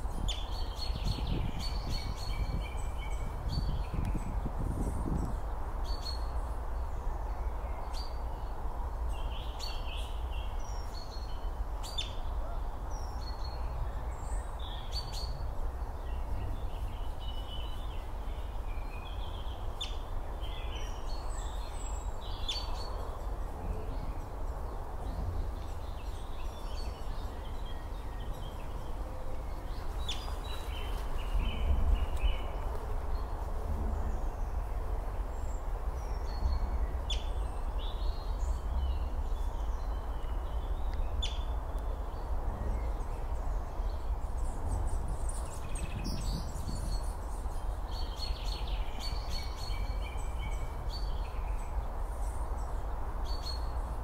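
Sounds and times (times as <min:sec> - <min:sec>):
low outdoor rumble and hiss: 0:00.0 - 0:54.0.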